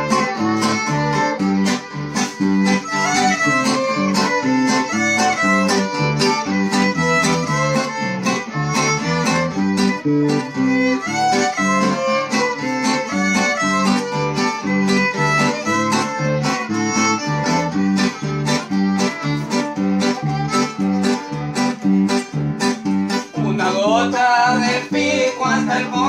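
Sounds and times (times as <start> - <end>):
fiddles bowing a melody: 0.0 - 26.0
plucked electric bass: 0.0 - 26.0
strummed guitar: 0.0 - 26.0.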